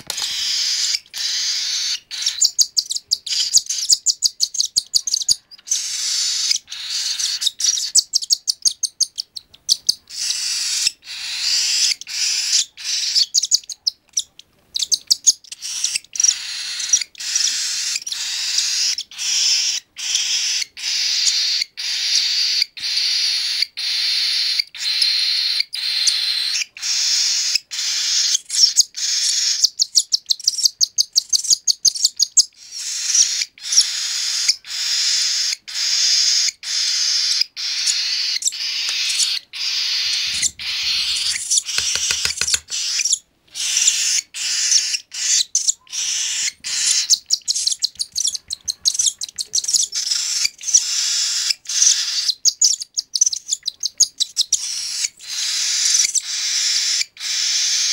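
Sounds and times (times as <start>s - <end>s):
bird chick begging calls: 0.0s - 57.9s.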